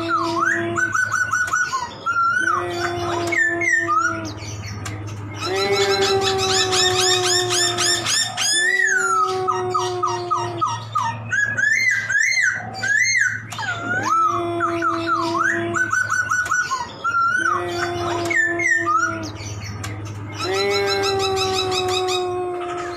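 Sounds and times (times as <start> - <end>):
laughingthrush singing: 0.0 - 22.9.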